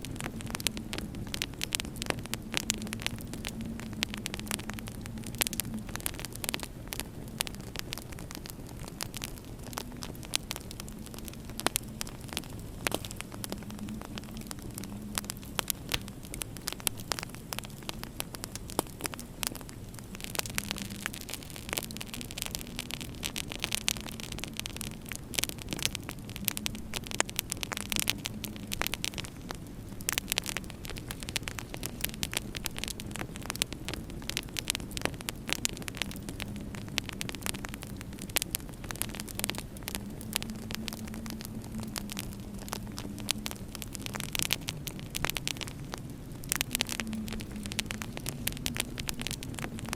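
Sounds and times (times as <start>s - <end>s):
low steady hum: 0.0s - 49.9s
wood fire crackling: 0.0s - 49.9s.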